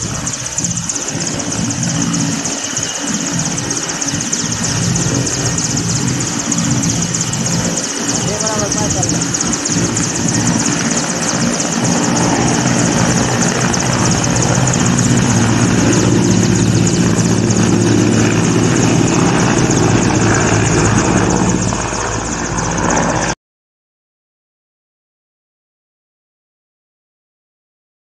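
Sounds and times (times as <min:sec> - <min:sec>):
helicopter rotor drone: 0:00.0 - 0:23.4
helicopter turbine whine: 0:00.0 - 0:23.4.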